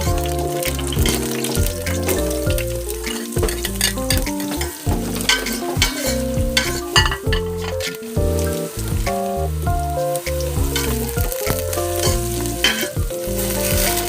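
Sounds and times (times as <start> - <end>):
background music with bass: 0.0 - 14.0
food sizzling in hot oil: 0.0 - 14.0.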